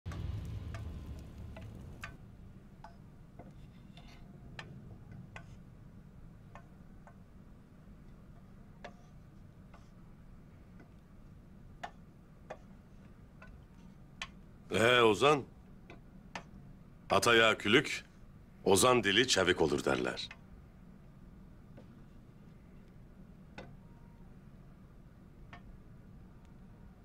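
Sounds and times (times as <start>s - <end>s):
low steady hum: 0.1s - 27.0s.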